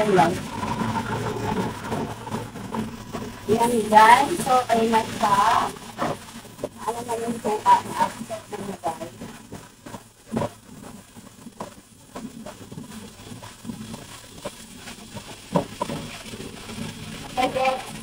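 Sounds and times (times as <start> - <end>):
frying hiss: 0.0 - 18.0.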